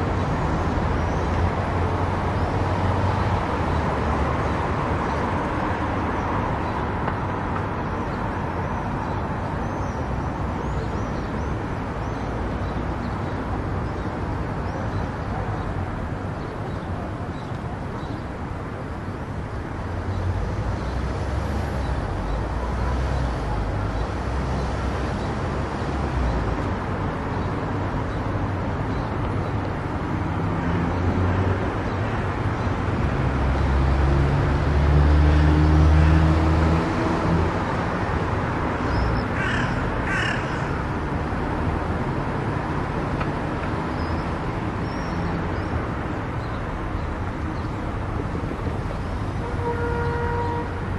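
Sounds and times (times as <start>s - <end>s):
car road and engine noise: 0.0s - 50.9s.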